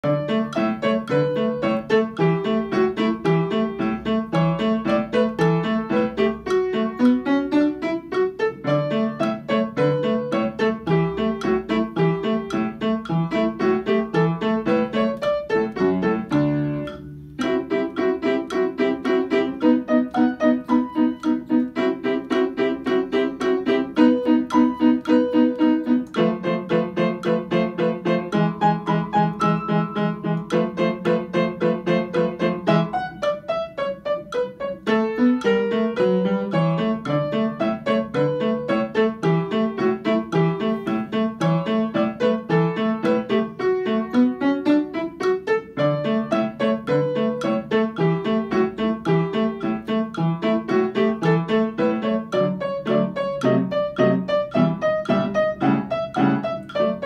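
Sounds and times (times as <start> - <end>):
upright piano playing: 0.0 - 57.0.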